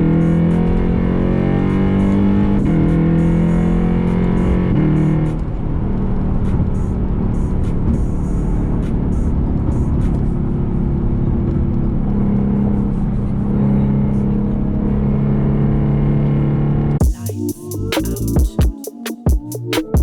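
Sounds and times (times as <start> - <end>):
road and wind noise: 0.0 - 17.0
car engine running: 0.0 - 18.7.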